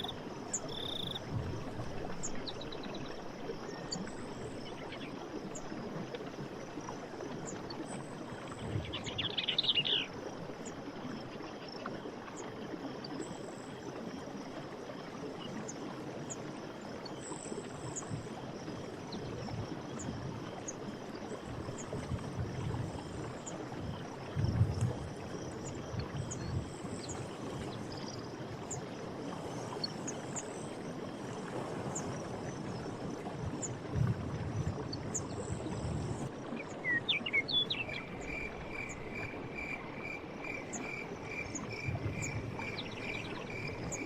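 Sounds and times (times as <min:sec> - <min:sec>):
stream running water: 0:00.0 - 0:44.0.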